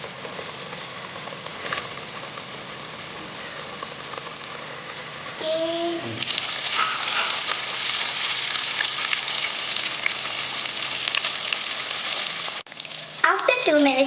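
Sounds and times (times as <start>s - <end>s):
oil crackling and popping: 0.0s - 13.9s
chicken deep-frying in oil: 0.0s - 14.0s.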